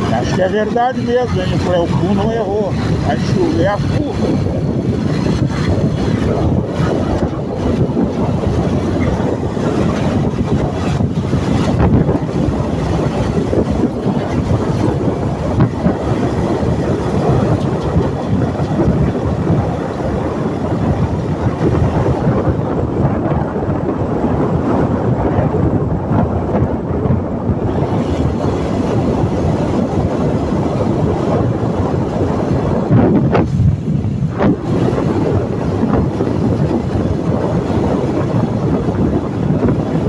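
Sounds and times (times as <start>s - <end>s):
vehicle road and engine noise: 0.0s - 40.0s.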